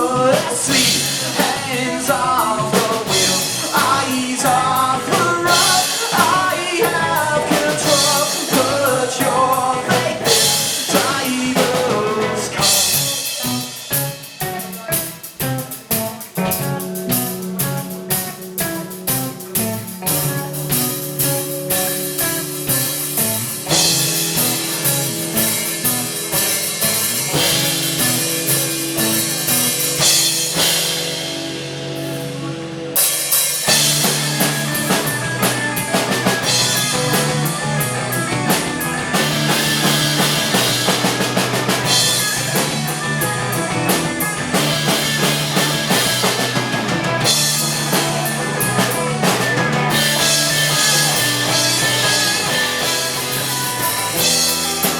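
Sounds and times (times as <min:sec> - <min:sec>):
drums: 0:00.0 - 0:54.9
effects-laden guitar: 0:00.0 - 0:54.9
live rock band playing: 0:00.0 - 0:54.9.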